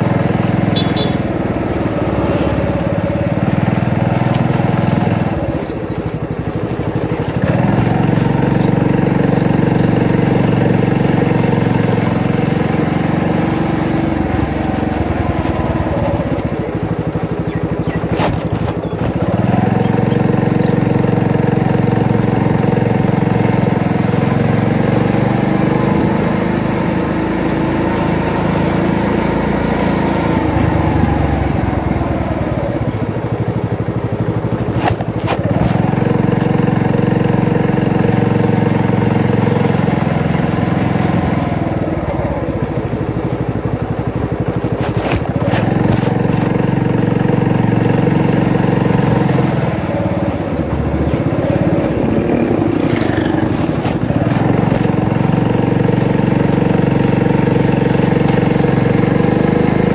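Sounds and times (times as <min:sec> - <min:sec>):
motorbike engine running: 0:00.0 - 0:59.9.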